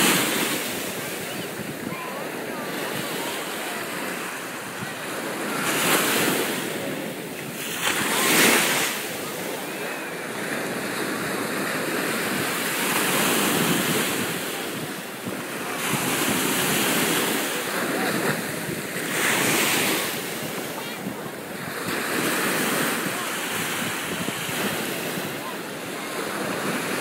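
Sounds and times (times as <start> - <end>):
small waves washing up a shore: 0.0 - 27.0
wind buffeting microphone: 0.0 - 27.0.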